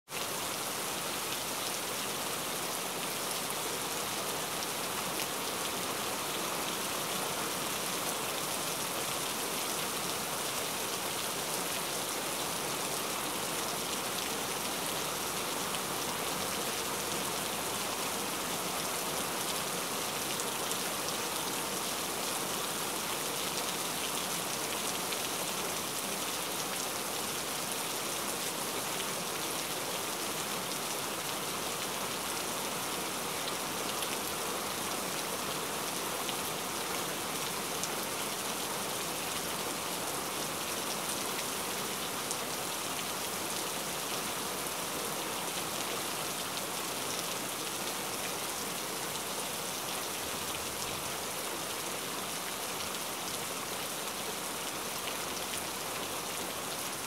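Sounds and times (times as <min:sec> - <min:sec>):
heavy rain falling: 0:00.1 - 0:55.8.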